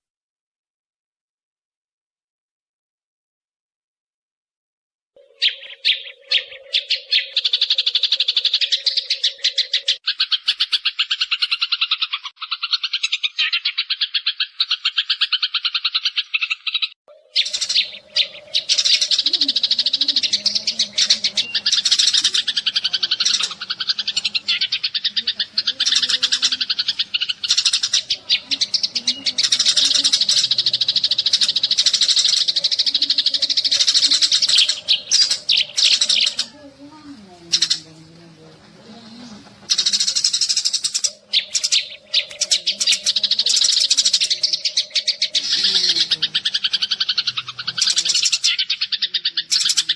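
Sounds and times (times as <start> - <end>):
sparrows chirping: 5.2 - 49.9.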